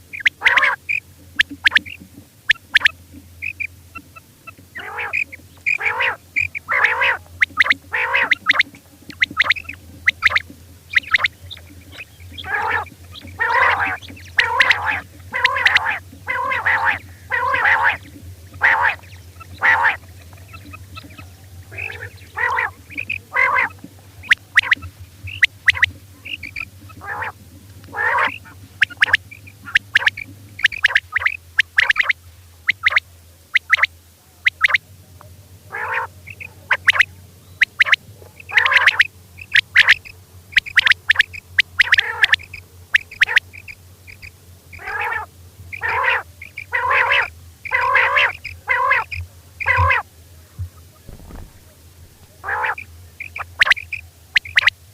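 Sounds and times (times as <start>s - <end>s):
quail calling: 0.0s - 34.8s, 35.7s - 54.9s.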